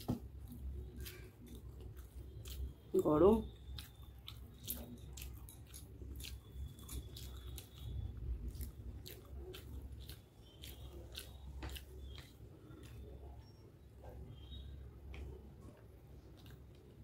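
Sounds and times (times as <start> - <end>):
person chewing noodles: 0.0 - 17.0.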